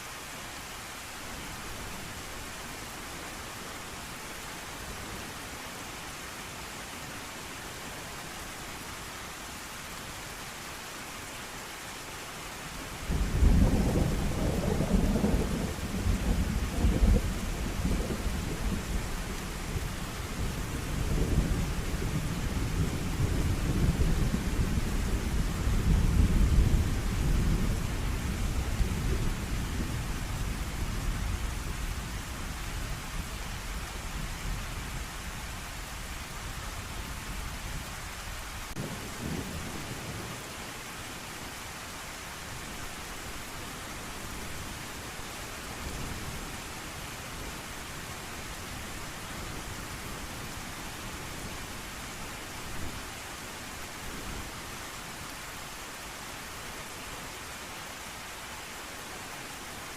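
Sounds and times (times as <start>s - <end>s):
rain hissing: 0.0s - 59.9s.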